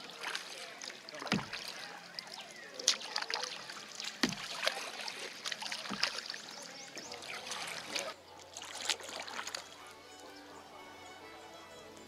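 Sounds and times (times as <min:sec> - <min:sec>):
paddle splashes in water: 0:00.0 - 0:10.0
water trickling off paddle: 0:00.0 - 0:11.2.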